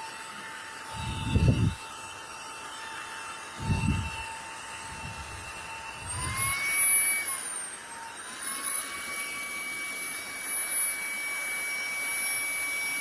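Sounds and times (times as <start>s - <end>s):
handheld vacuum whine: 0.0s - 13.0s.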